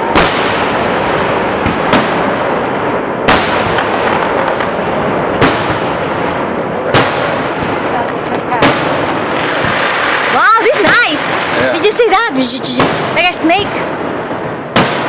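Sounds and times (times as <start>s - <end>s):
din of fireworks: 0.0s - 15.0s
fireworks shells bursting: 0.0s - 15.0s.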